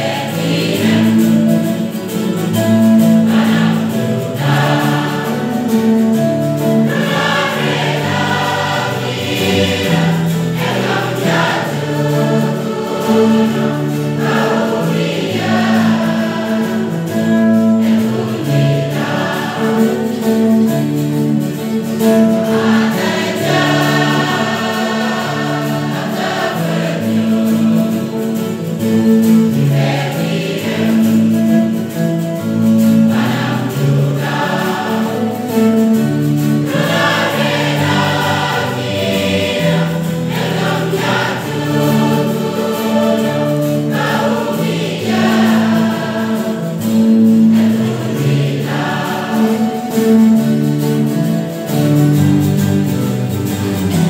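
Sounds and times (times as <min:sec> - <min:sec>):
choir singing a hymn: 0:00.0 - 0:54.0
guitars strumming: 0:00.0 - 0:54.0.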